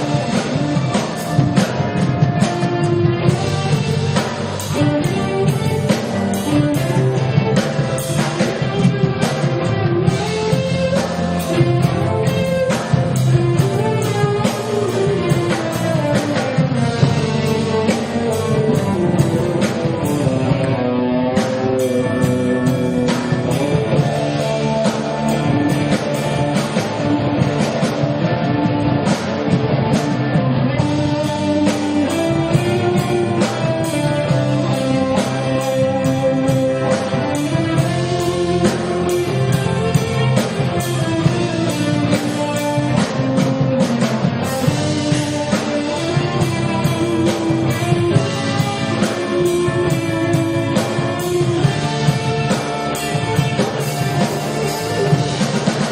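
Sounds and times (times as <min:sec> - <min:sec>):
electric guitar melody: 0:00.0 - 0:55.9
live rock band playing: 0:00.0 - 0:55.9.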